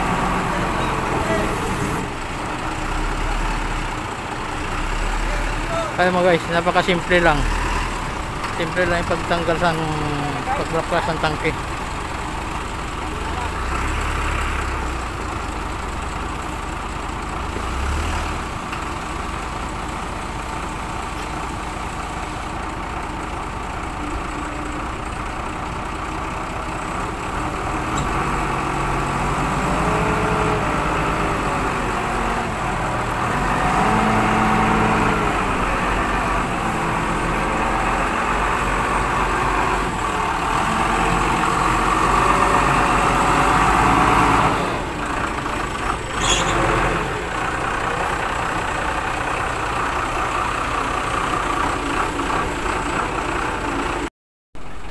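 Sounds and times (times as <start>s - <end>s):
forklift engine running: 0.0s - 54.9s.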